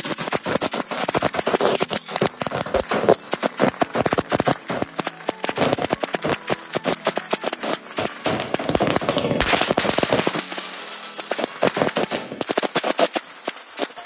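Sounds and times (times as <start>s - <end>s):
firecrackers crackling: 0.0s - 14.0s.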